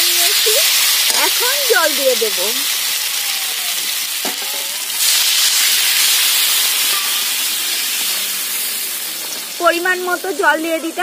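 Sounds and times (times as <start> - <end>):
water sizzling in hot oil: 0.0 - 11.0.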